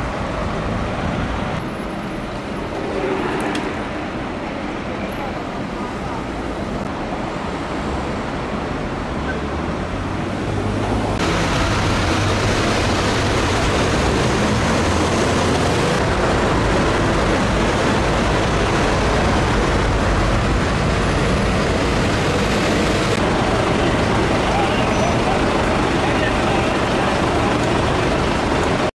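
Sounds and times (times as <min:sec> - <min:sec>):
fire engine engines rumbling: 0:00.0 - 0:28.9.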